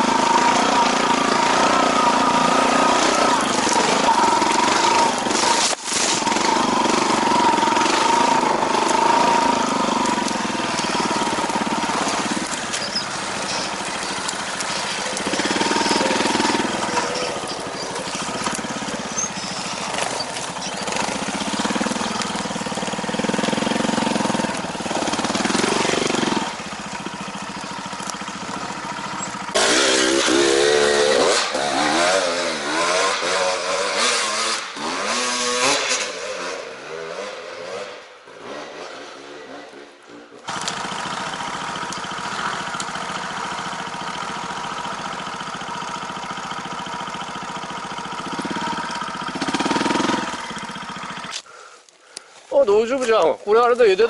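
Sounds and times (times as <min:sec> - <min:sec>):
motorcycle engine revving: 0:00.0 - 0:51.7.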